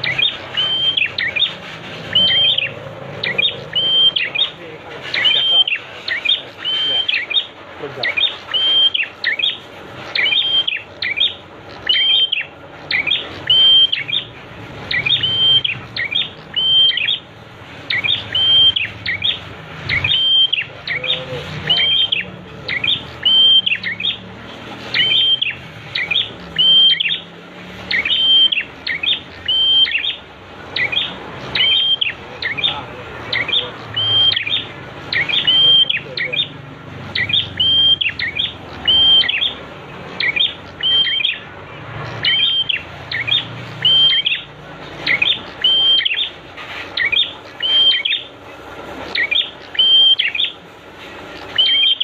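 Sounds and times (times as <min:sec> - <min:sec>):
bird chirping song: 0:00.0 - 0:52.0.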